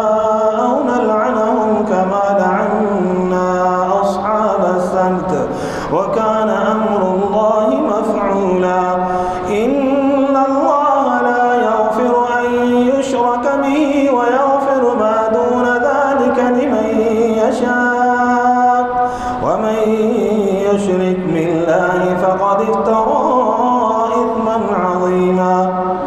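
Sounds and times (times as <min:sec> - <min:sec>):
man chanting recitation: 0:00.0 - 0:26.0.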